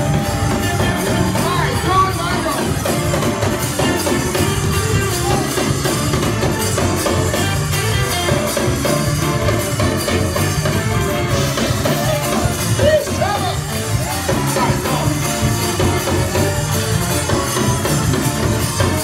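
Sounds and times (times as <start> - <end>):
church band music: 0.0 - 19.0
drums keeping a steady beat: 0.0 - 19.0.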